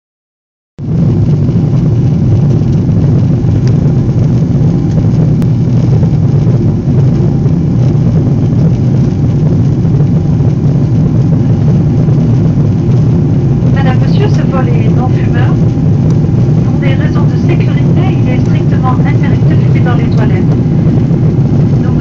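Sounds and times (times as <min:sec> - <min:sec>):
airliner cabin engine drone: 0:00.8 - 0:22.0.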